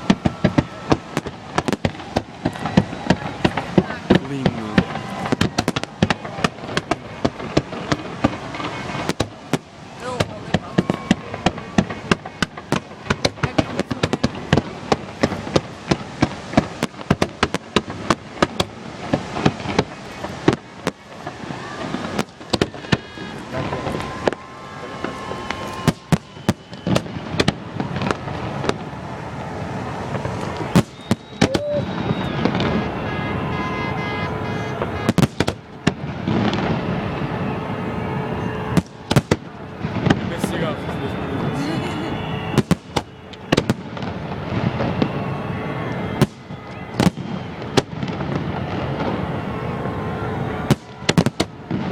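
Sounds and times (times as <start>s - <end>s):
fireworks bangs and cracks: 0.0s - 51.9s
fireworks crackle: 0.0s - 51.9s
fireworks whistling tones: 0.0s - 51.9s.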